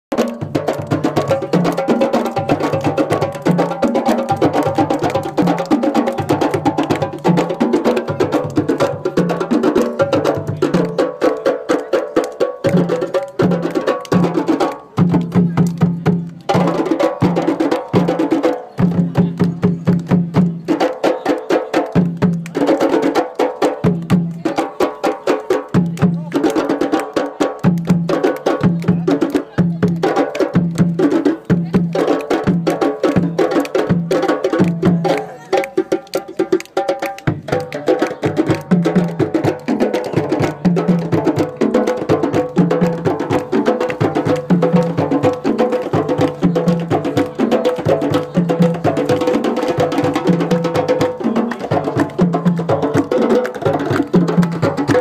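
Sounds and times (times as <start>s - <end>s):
drum circle playing djembes: 0.1s - 55.0s.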